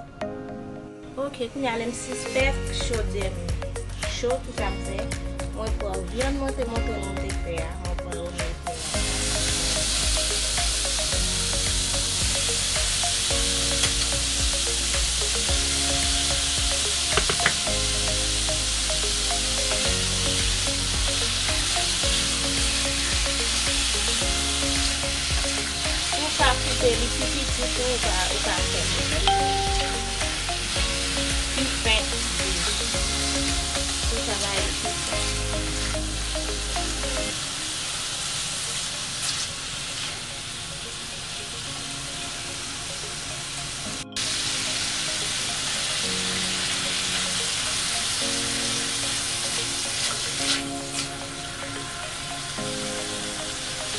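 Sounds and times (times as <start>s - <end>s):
low background music: 0.0s - 53.9s
beef sizzling in a pan: 8.6s - 53.9s.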